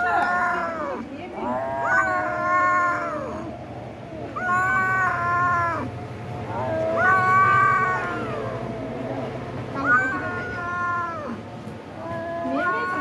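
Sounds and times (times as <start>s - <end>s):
cats yowling: 0.0s - 13.0s.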